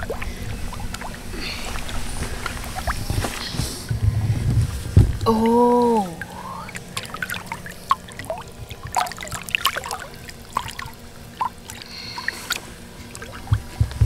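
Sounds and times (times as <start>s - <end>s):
fish thrashing and splashing water: 0.0s - 4.0s, 4.7s - 14.0s.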